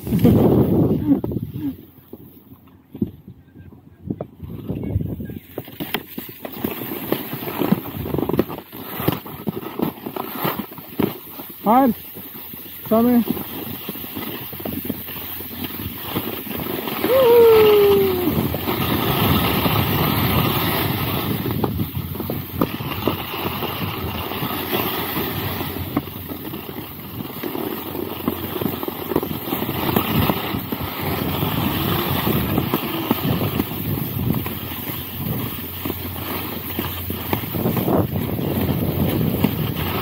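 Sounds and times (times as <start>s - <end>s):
skis scraping over snow: 0.0s - 3.1s, 4.4s - 40.0s
wind buffeting microphone: 0.0s - 5.9s, 7.6s - 8.7s, 12.2s - 27.4s, 28.2s - 40.0s.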